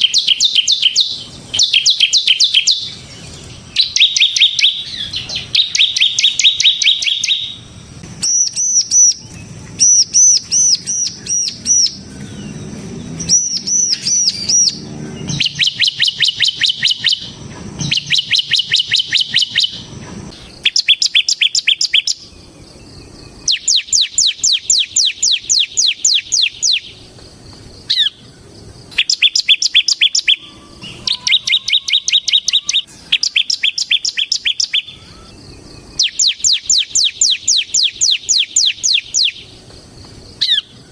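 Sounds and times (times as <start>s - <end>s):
bird singing fast trills: 0.0s - 40.9s.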